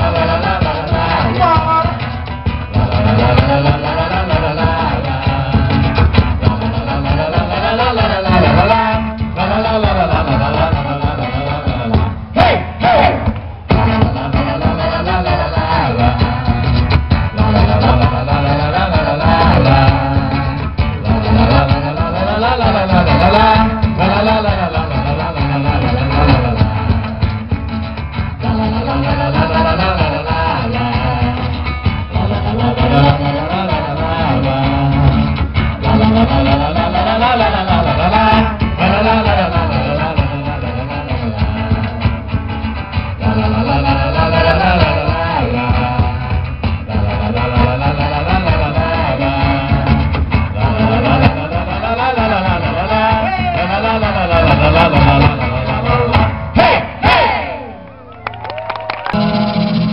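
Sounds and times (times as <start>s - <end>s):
folk dance music: 0.0s - 59.9s.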